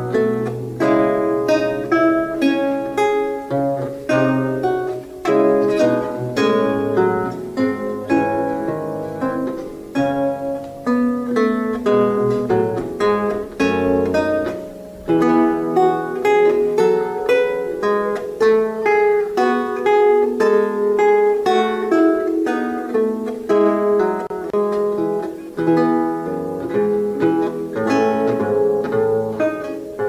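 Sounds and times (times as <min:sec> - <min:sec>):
lute plucked: 0:00.0 - 0:30.0.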